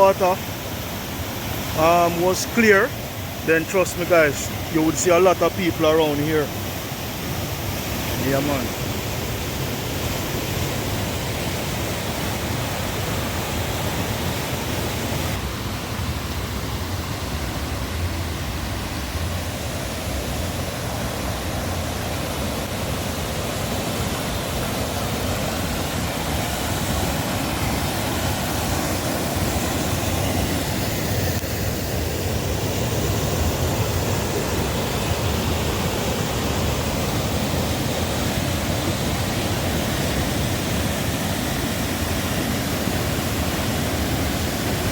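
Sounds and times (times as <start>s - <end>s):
river and waterfall rushing: 0.0s - 44.9s.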